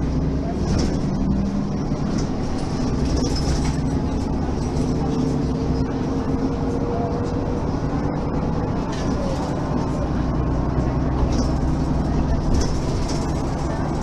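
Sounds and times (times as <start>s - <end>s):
bus diesel engine drone: 0.0s - 14.0s.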